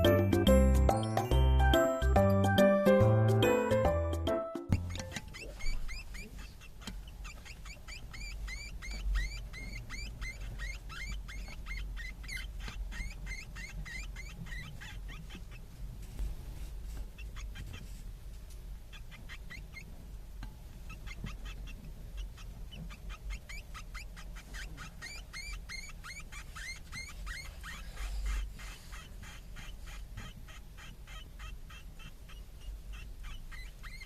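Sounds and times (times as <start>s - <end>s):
hamster pups squeaking: 0.0s - 18.1s, 18.8s - 34.0s.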